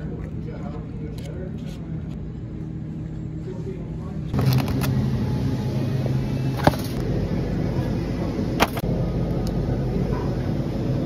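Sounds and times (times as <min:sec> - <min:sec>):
low rumble and hubbub: 0:00.0 - 0:11.0.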